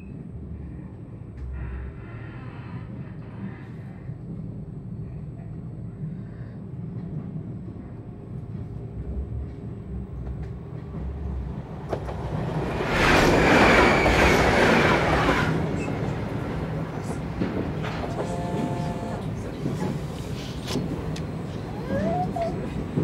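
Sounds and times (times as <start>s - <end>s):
train rumble inside carriage: 0.0s - 23.0s
passing train rush: 3.4s - 23.0s.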